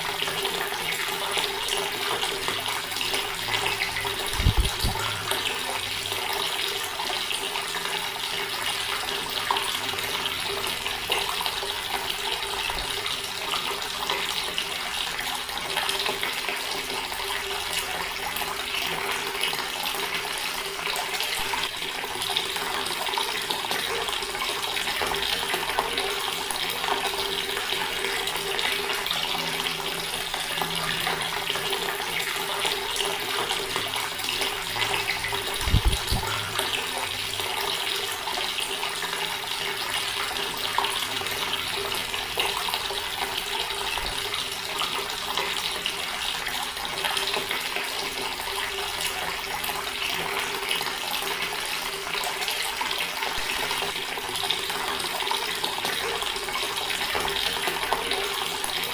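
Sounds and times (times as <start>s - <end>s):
water running from a tap: 0.0s - 58.9s.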